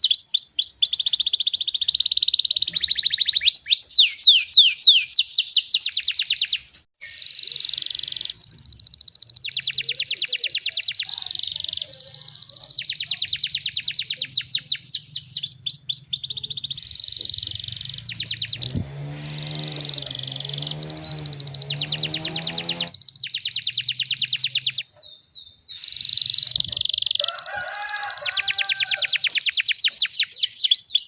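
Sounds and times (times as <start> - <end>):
canary singing trills: 0.0 - 31.0.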